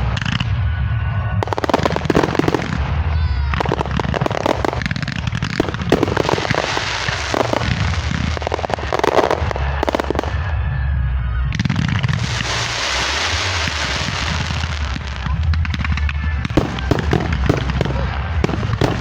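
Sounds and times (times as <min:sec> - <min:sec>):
fireworks crackling: 0:00.0 - 0:19.0
loud hissing crackle: 0:00.0 - 0:19.0.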